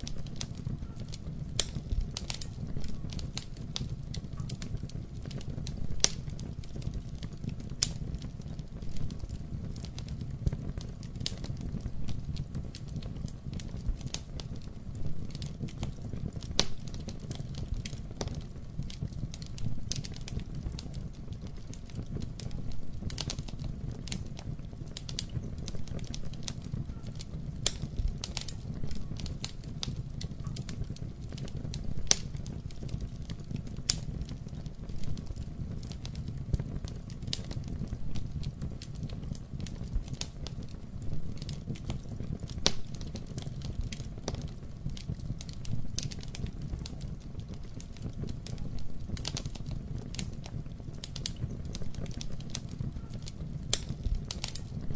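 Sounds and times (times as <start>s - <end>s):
burning wood crackling and popping: 0.0s - 54.9s
flames rumbling: 0.0s - 54.9s.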